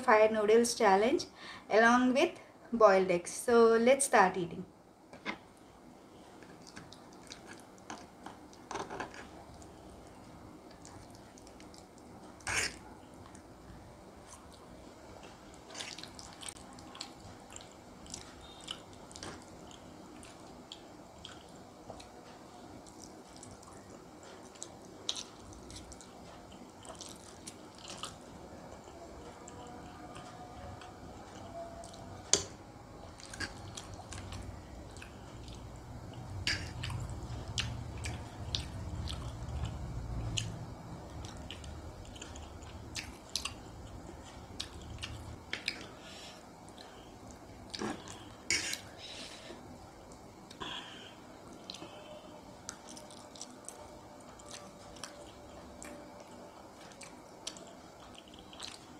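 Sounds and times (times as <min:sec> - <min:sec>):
person chewing noodles: 0:06.3 - 0:13.5, 0:14.1 - 0:32.3, 0:33.0 - 0:58.9.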